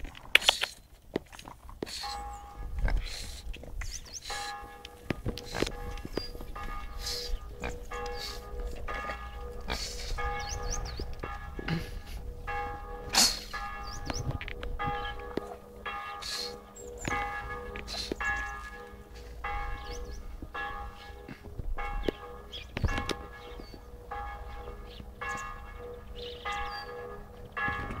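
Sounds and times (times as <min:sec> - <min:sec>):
bells ringing: 0:01.9 - 0:03.4, 0:04.0 - 0:28.0.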